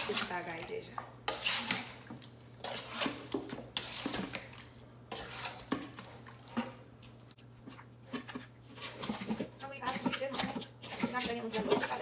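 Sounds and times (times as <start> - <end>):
metal spoon scraping steel bowl: 0.0 - 0.6, 1.3 - 6.8, 8.1 - 12.0.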